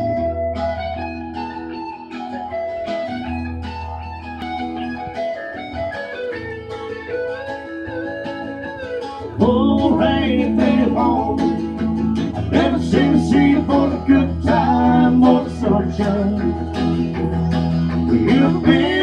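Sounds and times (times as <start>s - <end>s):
electric guitar picking a melody: 0.0s - 19.0s
low bass line: 0.0s - 19.0s.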